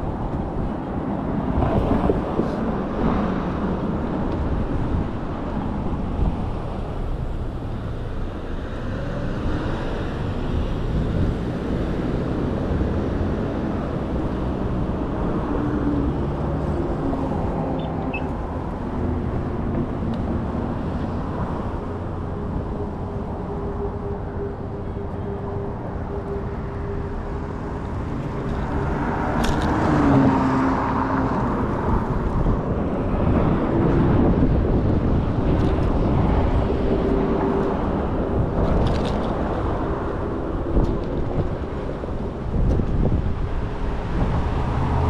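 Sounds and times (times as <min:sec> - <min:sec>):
low wind-like rumble: 0:00.0 - 0:45.0
road noise: 0:00.0 - 0:45.0.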